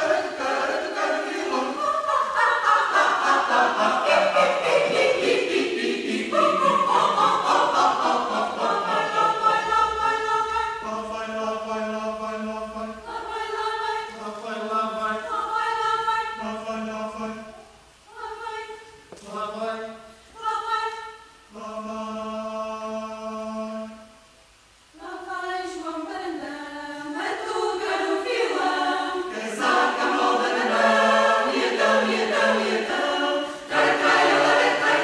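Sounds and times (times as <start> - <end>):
choir singing long chords: 0.0 - 24.2, 25.0 - 35.0.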